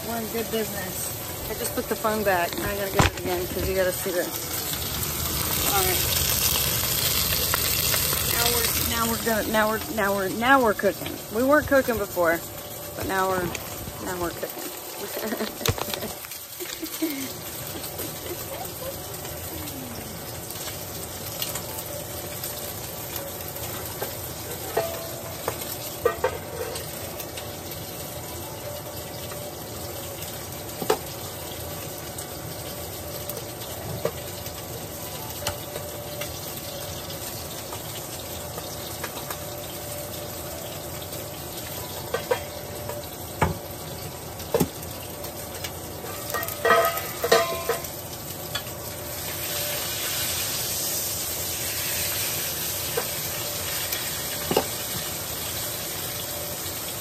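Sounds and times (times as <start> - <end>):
steak sizzling in a frying pan: 0.0 - 57.0.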